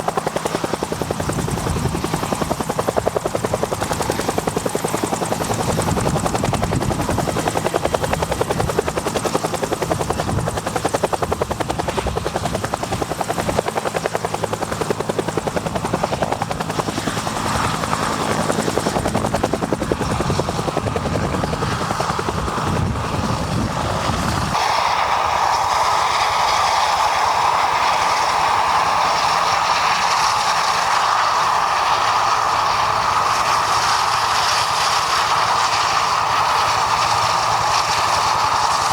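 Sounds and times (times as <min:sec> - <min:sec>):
helicopter rotor beating: 0:00.0 - 0:38.9
turbine whine: 0:00.0 - 0:38.9.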